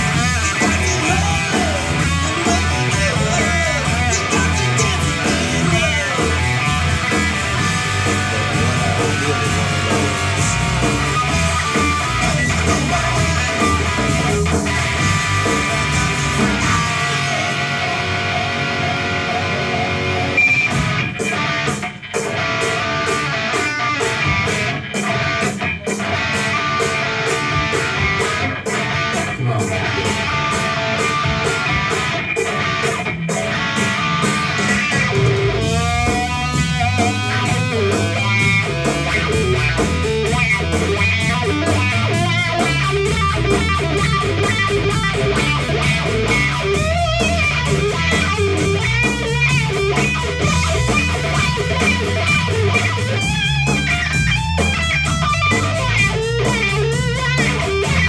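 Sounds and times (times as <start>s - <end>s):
electric guitar rock rhythm: 0.0s - 58.0s
wah pedal guitar sweep: 0.0s - 58.0s.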